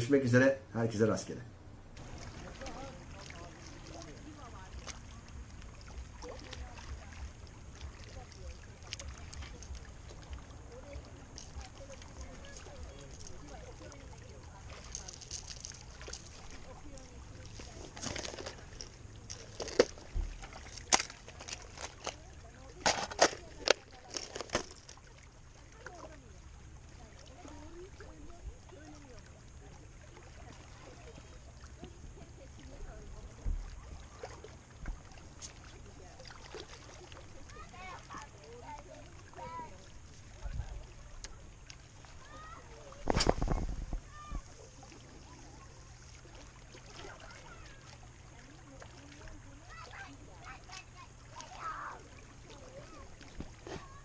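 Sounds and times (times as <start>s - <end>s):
low rumble of water and wind: 0.0s - 54.0s.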